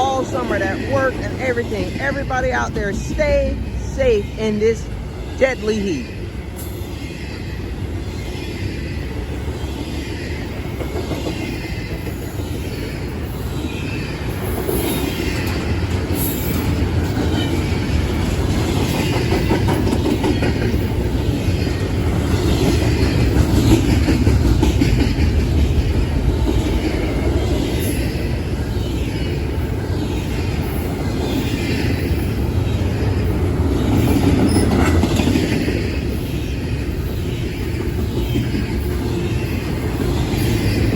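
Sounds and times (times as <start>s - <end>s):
rail clicks: 0.0s - 6.8s, 10.5s - 40.9s
freight train wheels rumbling: 0.0s - 40.9s.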